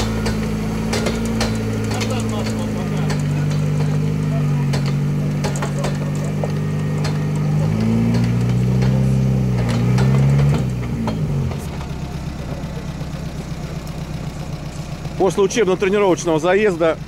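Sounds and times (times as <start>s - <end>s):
off-road vehicle engine whining: 0.0s - 17.0s.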